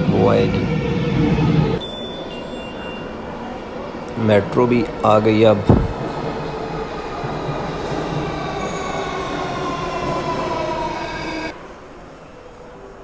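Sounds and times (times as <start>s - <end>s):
metro train braking: 0.0s - 13.0s.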